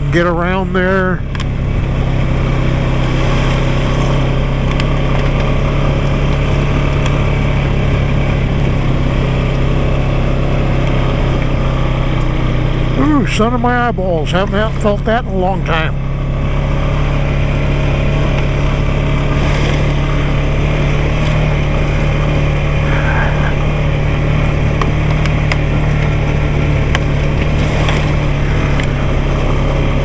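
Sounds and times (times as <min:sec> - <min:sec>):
vehicle engine droning: 0:00.0 - 0:30.0.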